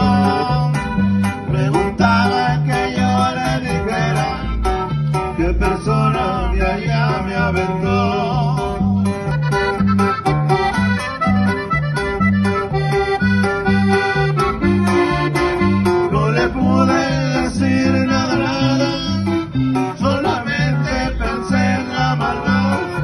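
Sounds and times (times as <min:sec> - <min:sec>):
accordion melody: 0:00.0 - 0:23.0
bass alternating two notes: 0:00.0 - 0:23.0
guitar: 0:00.0 - 0:23.0.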